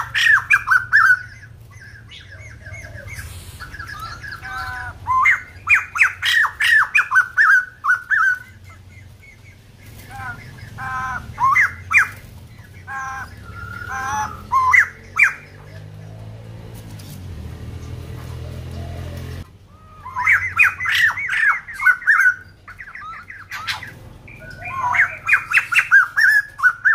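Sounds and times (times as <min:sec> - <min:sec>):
bird squawky calls: 0:00.0 - 0:16.5, 0:17.8 - 0:26.9.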